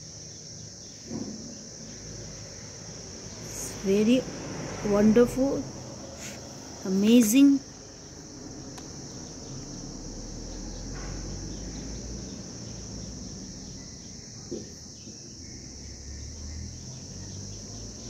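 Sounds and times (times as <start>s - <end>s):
high-pitched insect trill: 0.0s - 18.0s.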